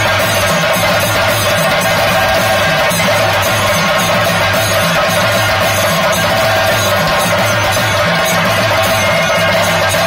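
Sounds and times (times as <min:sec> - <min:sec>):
drums beaten in rapid roll: 0:00.0 - 0:10.0.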